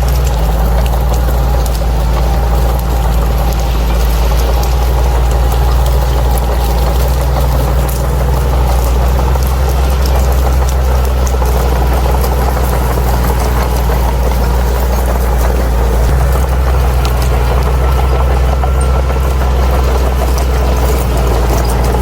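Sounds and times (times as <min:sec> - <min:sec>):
bulldozer diesel engine droning: 0:00.0 - 0:22.0
faint clicks and rattles: 0:00.0 - 0:22.0.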